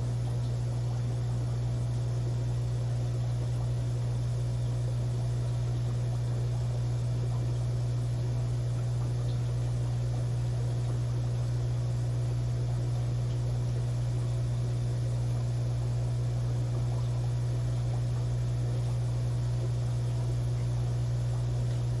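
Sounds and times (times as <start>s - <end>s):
aquarium pump humming: 0.0s - 22.0s.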